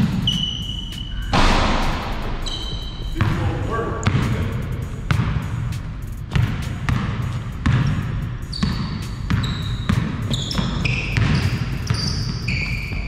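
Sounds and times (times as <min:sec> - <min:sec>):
sneakers squeaking on floor: 0:00.0 - 0:05.3, 0:06.3 - 0:13.0
basketball dribbling on court: 0:01.4 - 0:05.4, 0:06.3 - 0:13.0.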